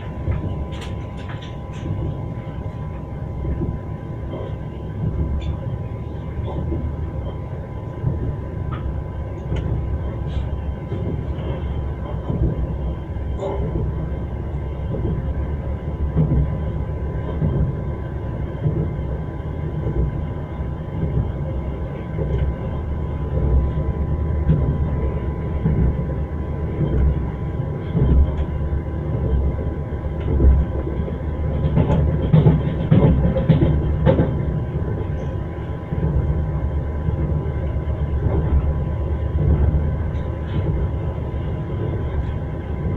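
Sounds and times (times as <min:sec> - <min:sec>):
moving train rumble: 0:00.0 - 0:42.9.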